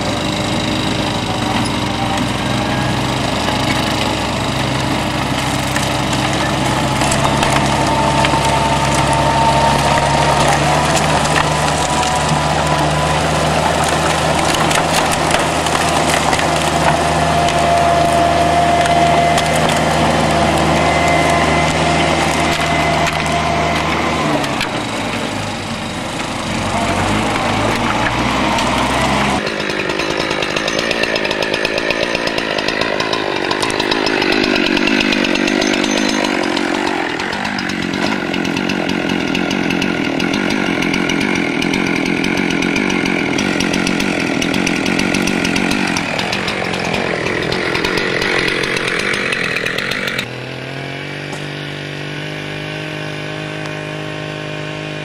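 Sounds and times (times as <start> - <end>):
lawn mower running: 0.0 - 55.0
small engine revving: 0.0 - 55.0.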